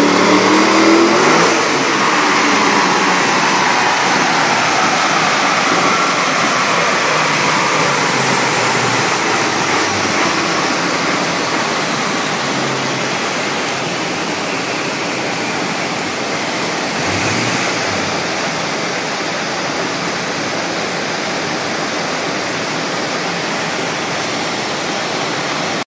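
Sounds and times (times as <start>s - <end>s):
faint drivetrain whine: 0.0s - 20.8s
cooling fan rushing: 0.0s - 25.8s.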